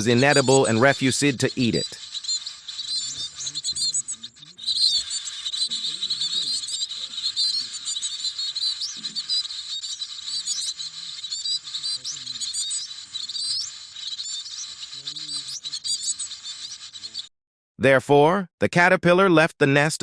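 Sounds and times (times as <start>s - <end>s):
nestlings cheeping: 0.0s - 17.3s.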